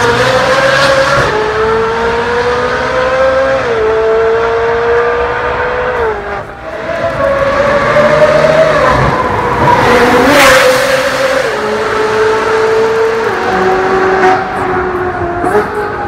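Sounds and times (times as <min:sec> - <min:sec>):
sports car engine passing at speed: 0:00.0 - 0:16.0.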